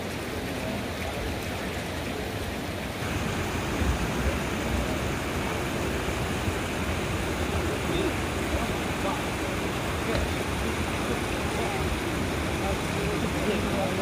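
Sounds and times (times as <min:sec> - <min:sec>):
low uneven rumble: 0:00.0 - 0:14.0
river rushing over rocks: 0:00.0 - 0:14.0.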